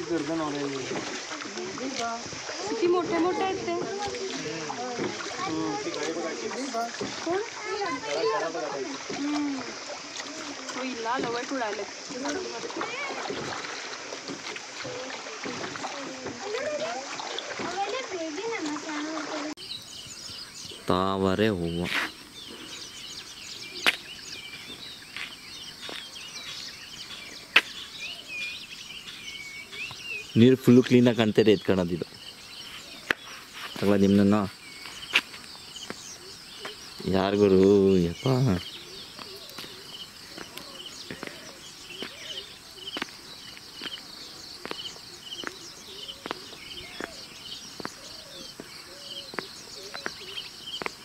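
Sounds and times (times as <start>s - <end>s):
faint outdoor background: 0.0s - 51.0s
high insect hum: 0.0s - 51.0s
small birds chirping: 0.0s - 51.0s.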